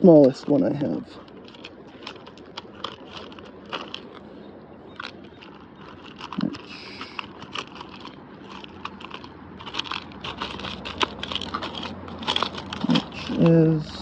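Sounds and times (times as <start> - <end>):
fishing tackle clicking and rustling: 0.0 - 14.0.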